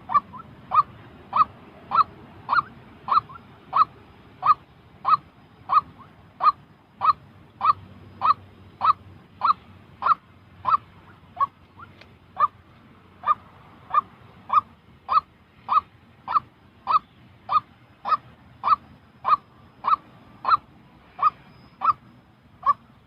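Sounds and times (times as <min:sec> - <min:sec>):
waterhen honking calls: 0:00.0 - 0:12.6, 0:13.2 - 0:22.9.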